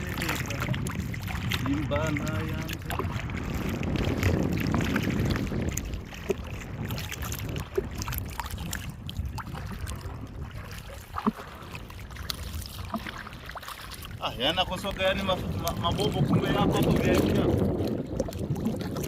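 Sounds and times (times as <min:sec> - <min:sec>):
water sloshing against boat: 0:00.0 - 0:19.0.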